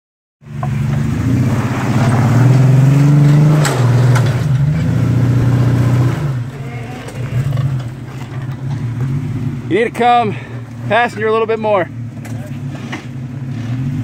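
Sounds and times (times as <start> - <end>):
engine revving under load: 0.5 - 11.3, 11.9 - 14.0.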